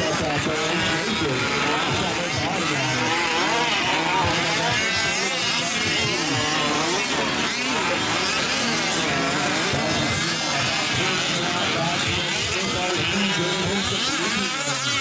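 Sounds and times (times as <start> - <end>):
rc truck engines revving: 0.0 - 15.0.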